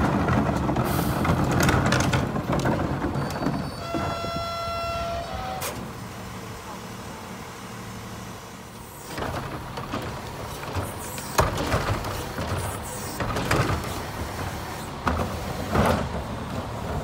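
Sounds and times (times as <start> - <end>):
garbage truck diesel engine: 0.0 - 17.0.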